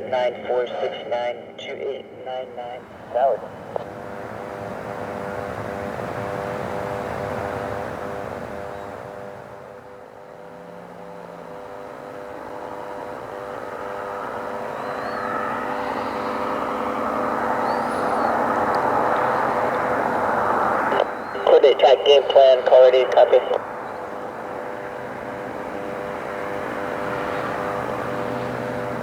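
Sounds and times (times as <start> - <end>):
aircraft engine drone: 0.0 - 29.0
rushing aircraft engine noise: 0.0 - 29.0.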